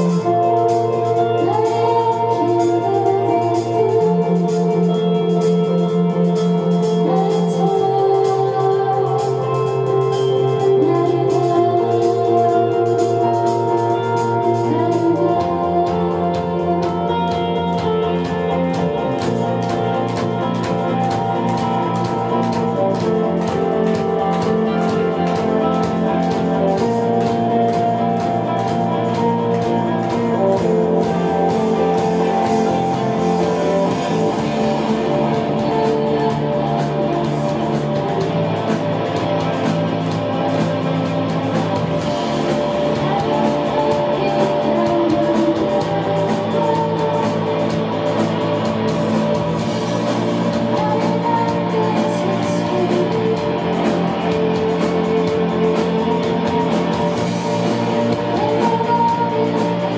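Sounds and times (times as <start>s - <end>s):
bass line: 0.0s - 59.9s
distorted electric guitars: 0.0s - 59.9s
drums and cymbals: 0.0s - 59.9s.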